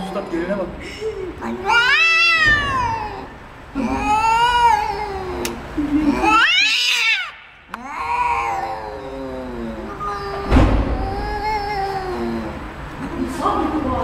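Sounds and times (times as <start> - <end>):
cats caterwauling: 1.3 - 12.9.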